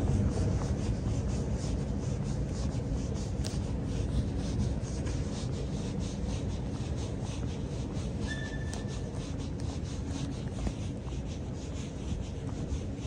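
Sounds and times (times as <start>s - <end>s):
station concourse hum: 0.0s - 13.0s.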